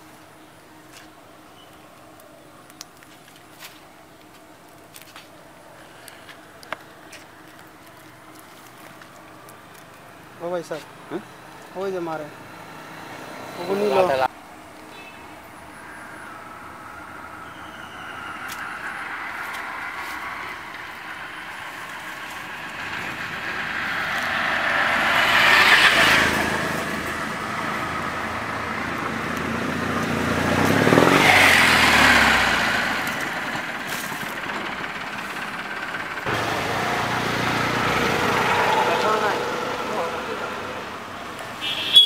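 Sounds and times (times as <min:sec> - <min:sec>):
vehicles passing by: 0:00.0 - 0:42.0.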